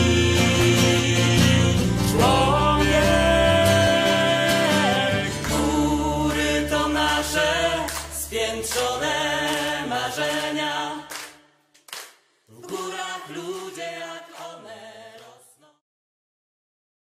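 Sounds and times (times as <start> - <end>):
several voices singing together: 0.0 - 11.5, 12.5 - 15.8.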